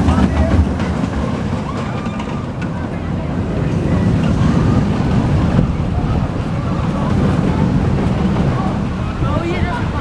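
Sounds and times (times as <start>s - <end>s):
roller coaster rumbling on track: 0.0s - 10.0s.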